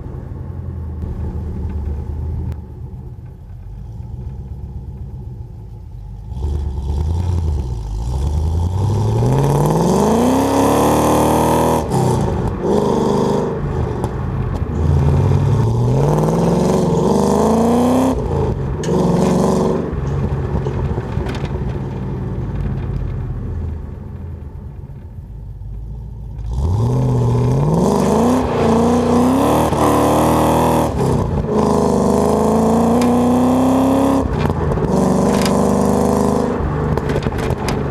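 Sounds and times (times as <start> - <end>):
car exhaust accelerating through gears: 0.0 - 37.9.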